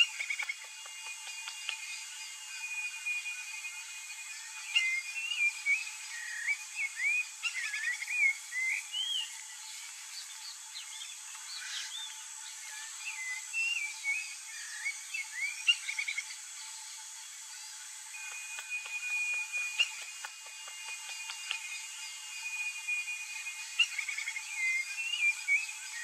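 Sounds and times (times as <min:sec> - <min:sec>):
small birds chirping: 0:00.0 - 0:26.0
steady high hiss: 0:00.0 - 0:26.0.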